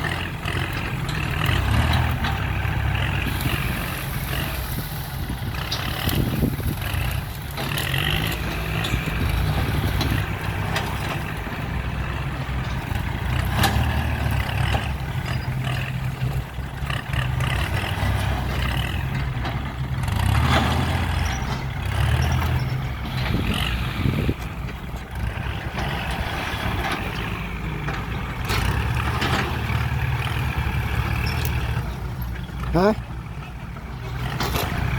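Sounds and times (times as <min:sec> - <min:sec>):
diesel engine of heavy machinery: 0:00.0 - 0:34.9.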